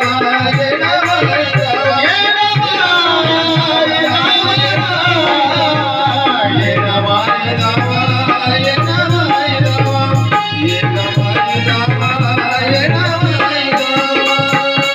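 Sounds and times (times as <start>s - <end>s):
person singing: 0.0s - 14.9s
steady drum beat: 0.0s - 14.9s.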